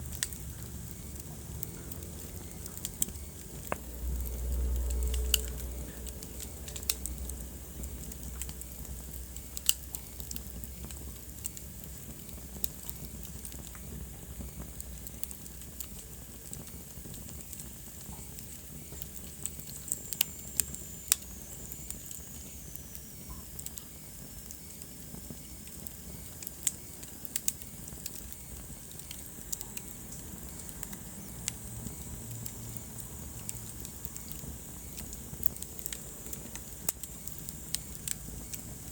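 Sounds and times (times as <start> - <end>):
fire crackling and popping: 0.0 - 38.9
fire hissing: 0.0 - 38.9.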